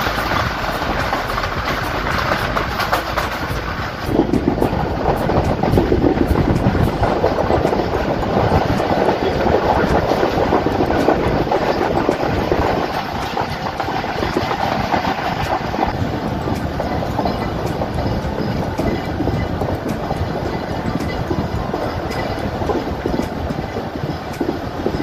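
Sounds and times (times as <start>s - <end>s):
train coaches rumbling: 0.0s - 25.0s
wheels clicking over rail joints: 0.0s - 25.0s.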